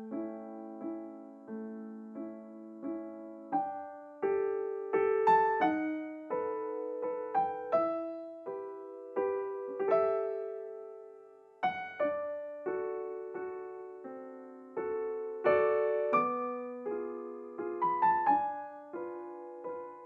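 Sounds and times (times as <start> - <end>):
gentle solo piano: 0.0 - 20.0.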